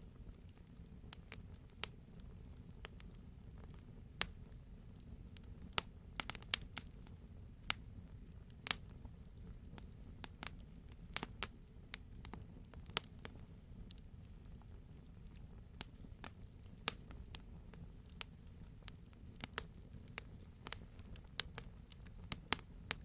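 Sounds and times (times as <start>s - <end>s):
low fire rumble: 0.0s - 23.0s
campfire crackling and popping: 0.2s - 23.0s.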